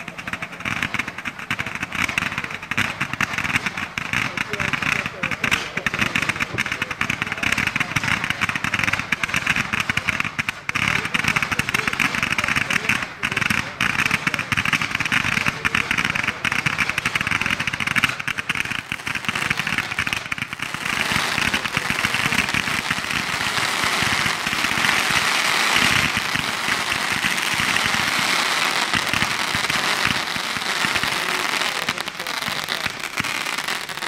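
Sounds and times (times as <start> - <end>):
firework fountain crackling: 0.0 - 34.0
firework fountain hissing: 0.0 - 34.0.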